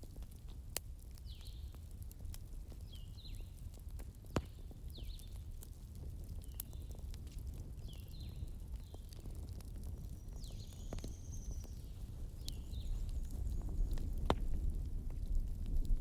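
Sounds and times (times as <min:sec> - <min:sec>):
campfire low rumble: 0:00.0 - 0:16.0
fire crackles and pops: 0:00.0 - 0:16.0.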